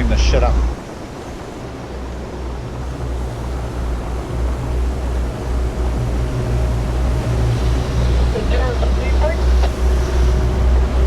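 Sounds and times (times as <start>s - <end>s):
boat engine droning: 0.0s - 11.0s
water noise: 0.0s - 11.0s
wind: 0.0s - 11.0s.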